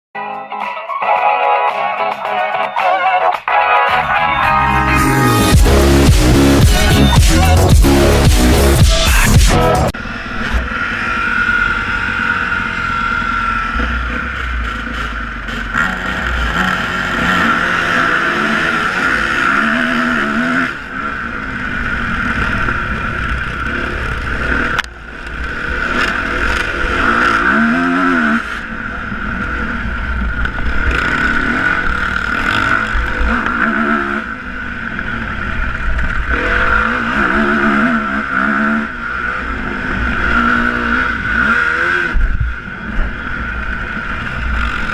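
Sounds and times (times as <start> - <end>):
motorbike engines revving: 3.9 - 44.9.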